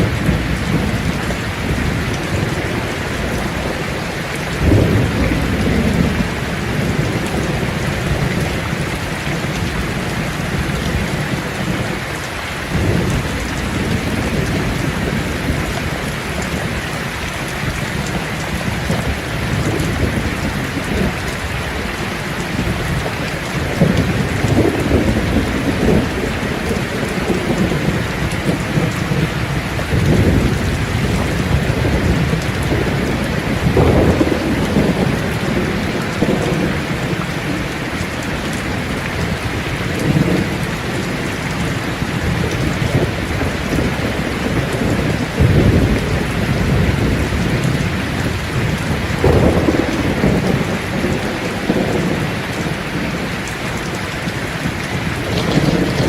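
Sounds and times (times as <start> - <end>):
heavy rain: 0.0 - 56.0
low rolling thunder: 0.0 - 56.0.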